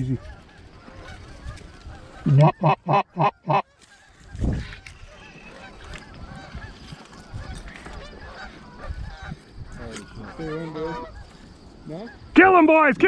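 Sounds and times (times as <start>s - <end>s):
geese honking and cackling: 0.0s - 13.0s.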